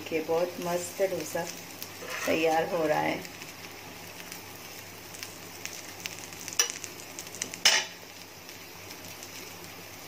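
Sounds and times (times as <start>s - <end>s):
batter sizzling on a griddle: 0.0s - 10.0s.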